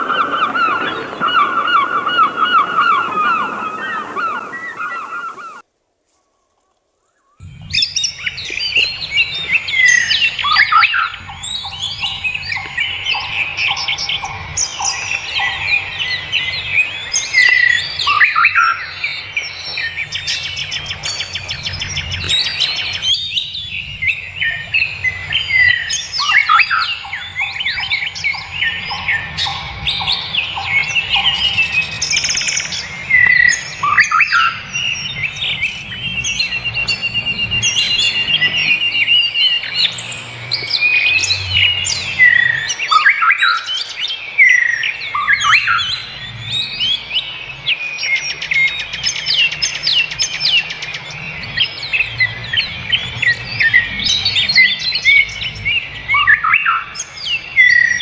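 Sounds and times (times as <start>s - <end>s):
birds singing and chirping: 0.0s - 5.6s, 6.2s - 58.0s.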